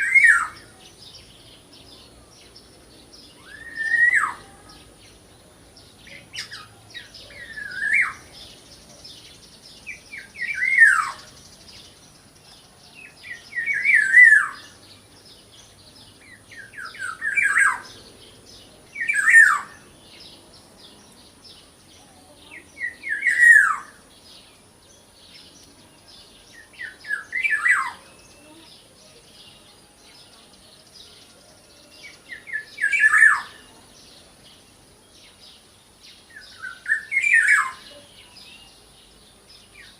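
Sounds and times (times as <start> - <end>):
faint bird chirping: 0.0 - 39.9.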